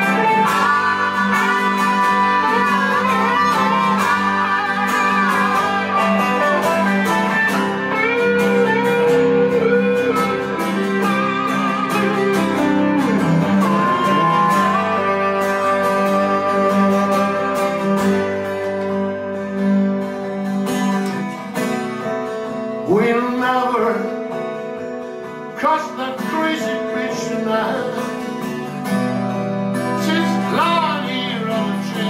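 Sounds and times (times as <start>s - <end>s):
blues lead guitar bending notes: 0.0s - 32.0s
rhythm guitar accompaniment: 0.0s - 32.0s.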